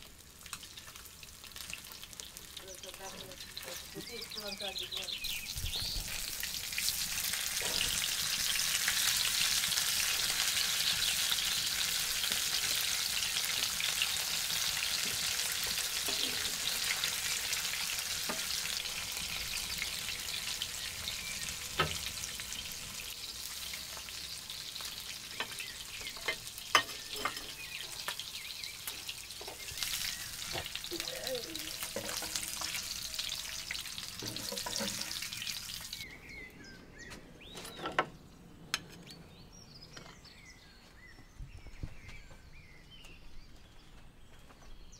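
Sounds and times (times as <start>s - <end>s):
fish sizzling in hot oil: 0.0s - 36.0s.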